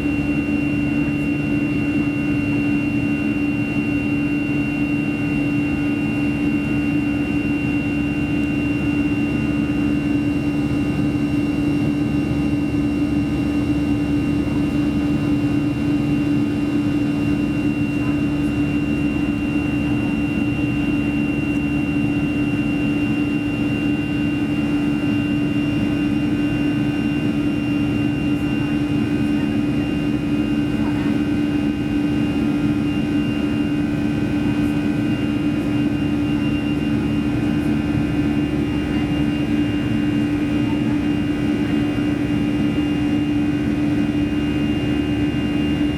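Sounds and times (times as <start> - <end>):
jet engine hum in cabin: 0.0 - 45.9.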